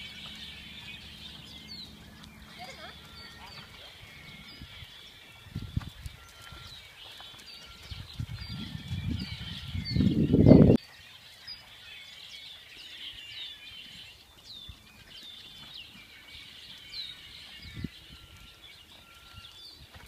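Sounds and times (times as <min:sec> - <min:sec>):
horse hooves on sand: 0:00.0 - 0:20.0
small birds chirping: 0:00.0 - 0:20.0.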